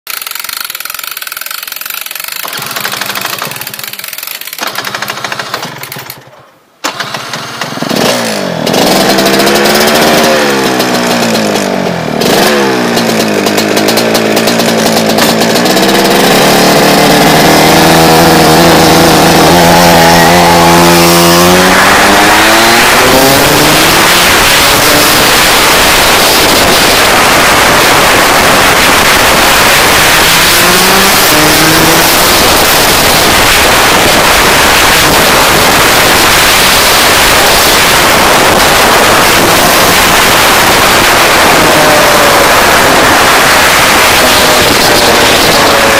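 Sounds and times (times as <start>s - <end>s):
kart engine revving: 0.1s - 45.9s.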